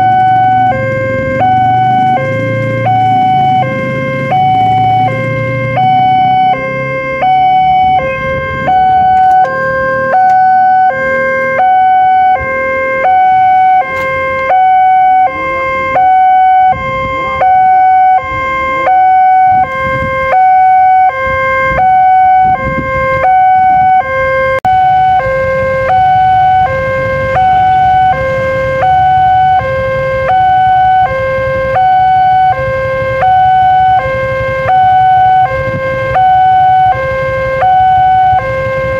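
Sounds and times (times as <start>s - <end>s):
two-tone level crossing siren: 0.0s - 38.9s.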